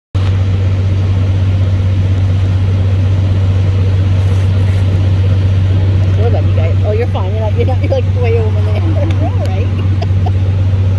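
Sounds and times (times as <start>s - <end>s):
vehicle engine idling: 0.2s - 10.9s.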